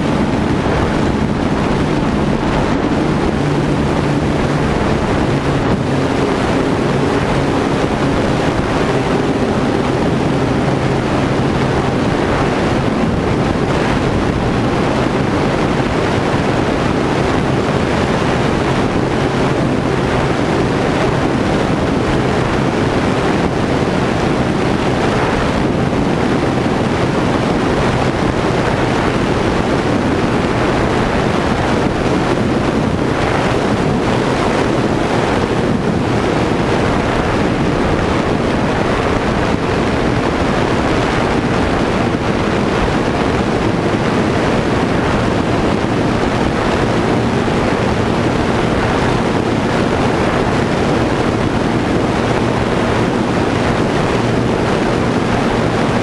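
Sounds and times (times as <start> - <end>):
electric motor and propeller hum: 0.0 - 56.0
wind rushing over camera: 0.0 - 56.0.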